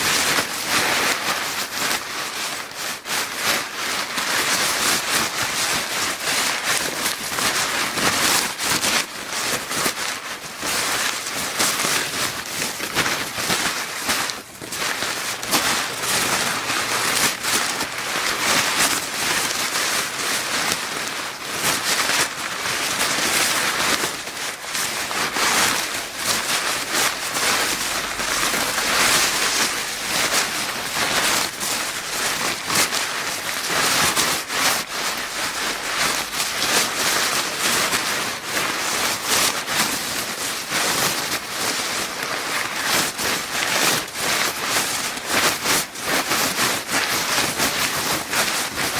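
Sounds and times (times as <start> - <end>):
paper bag crinkling: 0.0 - 48.9.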